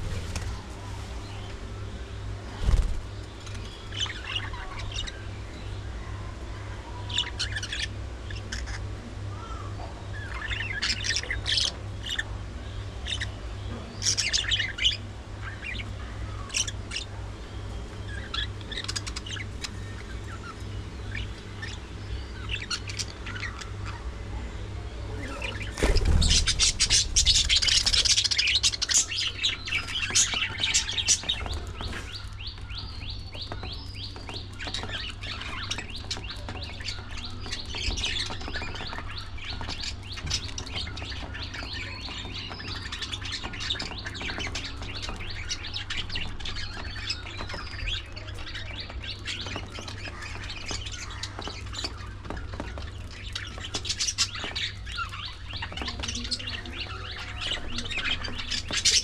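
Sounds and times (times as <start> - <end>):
budgerigars chirping and chattering: 0.0 - 59.0
steady low hum: 0.0 - 59.0.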